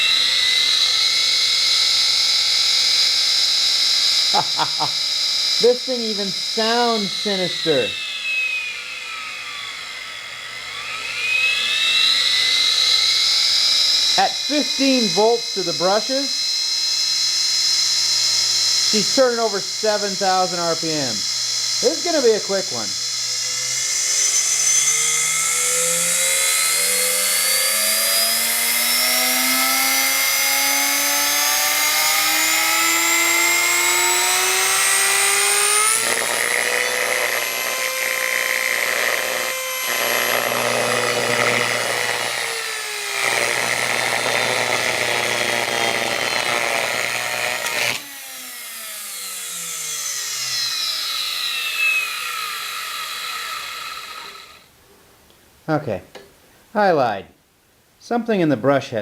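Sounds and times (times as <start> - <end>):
vacuum motor whine: 0.0 - 54.8.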